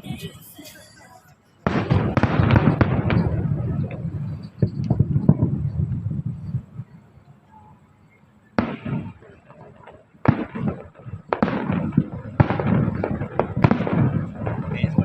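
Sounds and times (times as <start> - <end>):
fireworks bangs with crackling: 1.6 - 7.2, 8.5 - 15.0.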